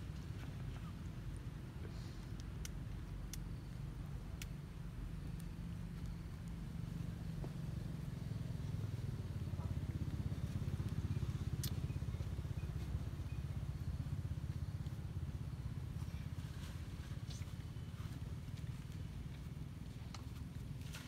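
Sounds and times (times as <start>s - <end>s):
engine rumbling: 0.0s - 21.0s.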